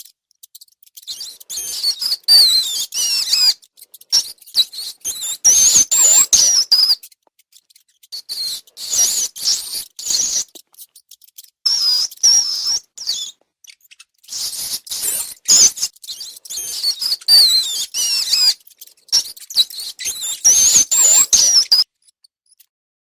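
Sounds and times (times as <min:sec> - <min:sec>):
rats squeaking: 0:00.0 - 0:22.7.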